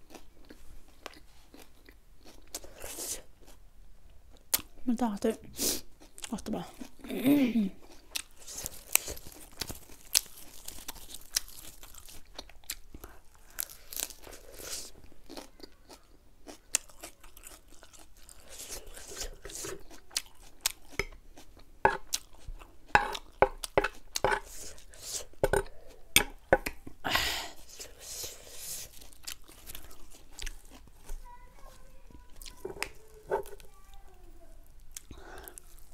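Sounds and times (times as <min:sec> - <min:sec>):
chewing food with crunches: 0:00.0 - 0:03.6, 0:05.8 - 0:27.0, 0:27.6 - 0:35.9.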